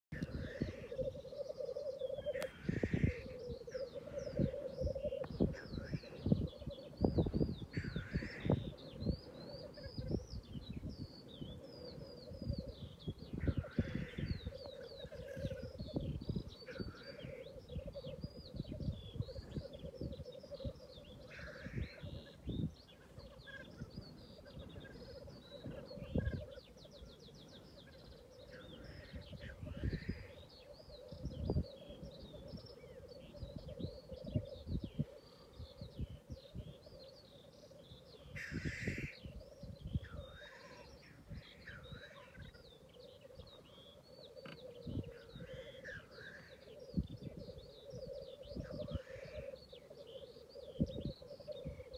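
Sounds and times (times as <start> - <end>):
wind buffeting microphone: 0.1 - 51.9
grouse hissing calls: 0.2 - 10.2, 13.3 - 18.2, 19.4 - 36.7, 38.2 - 51.9
grouse bubbling cooing chorus: 0.2 - 51.9.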